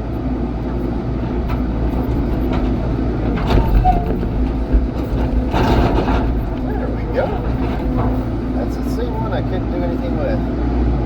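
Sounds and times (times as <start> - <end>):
digging machine diesel engine: 0.0 - 11.0.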